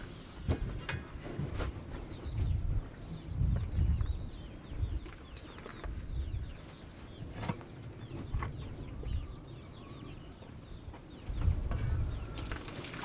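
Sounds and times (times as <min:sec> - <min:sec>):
small birds chirping: 0:01.7 - 0:13.0.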